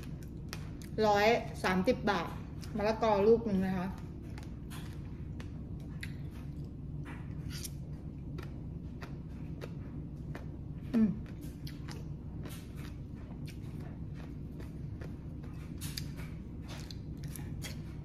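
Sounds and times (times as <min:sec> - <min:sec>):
person chewing crisp food: 0:00.0 - 0:01.0, 0:04.0 - 0:18.0.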